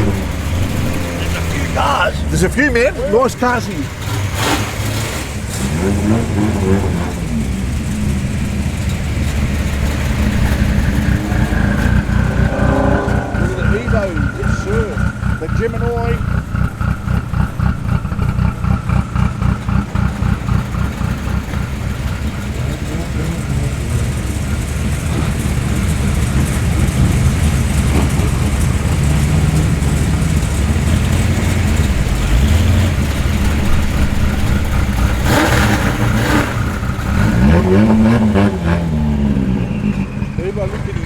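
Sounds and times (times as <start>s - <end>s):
car engines and exhausts running: 0.0s - 41.0s
engine revving: 0.0s - 41.0s.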